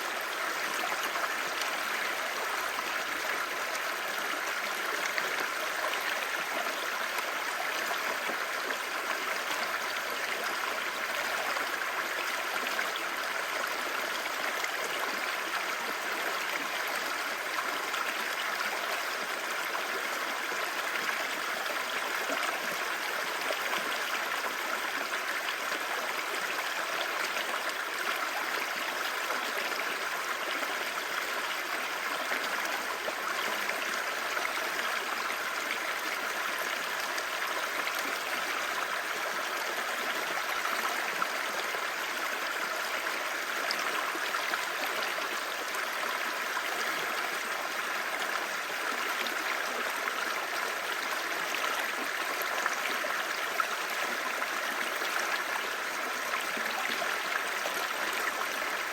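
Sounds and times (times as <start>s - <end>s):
stream babbling over rocks: 0.0s - 58.9s.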